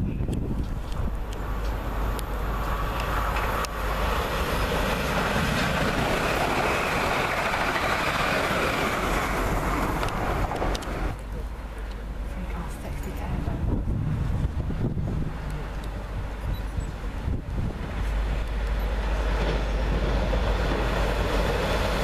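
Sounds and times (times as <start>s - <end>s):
passenger train passing: 0.0s - 22.0s.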